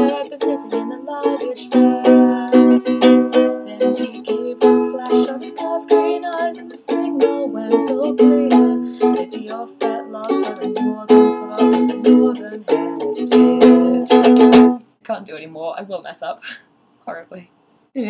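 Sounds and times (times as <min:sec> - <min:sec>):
ukulele strumming chords: 0:00.0 - 0:14.8.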